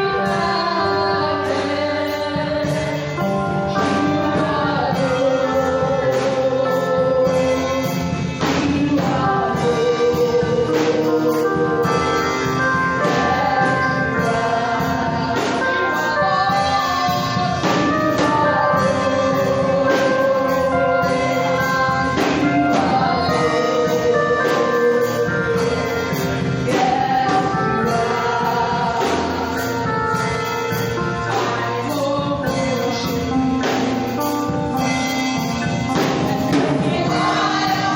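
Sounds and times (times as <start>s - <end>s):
choir singing with instruments: 0.0s - 37.9s
percussion accents: 0.0s - 37.9s.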